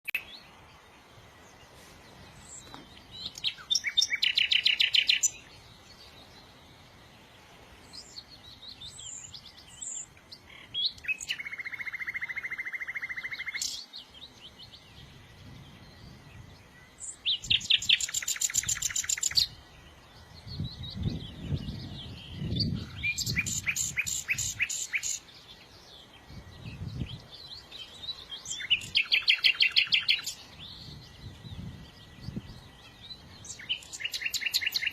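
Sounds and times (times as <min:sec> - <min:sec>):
songbird singing trilled phrases: 0:00.0 - 0:34.9.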